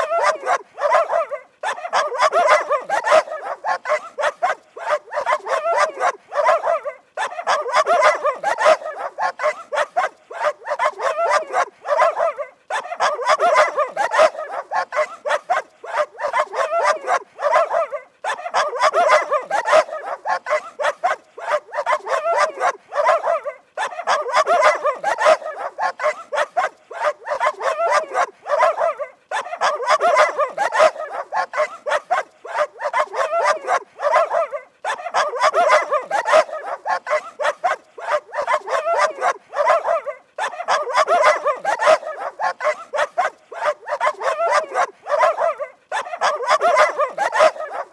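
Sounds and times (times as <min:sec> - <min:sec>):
dog barking rapidly: 0:00.0 - 0:47.9.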